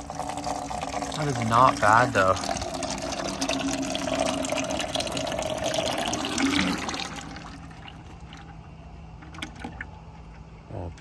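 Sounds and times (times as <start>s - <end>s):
oil pouring into bucket: 0.0s - 10.5s.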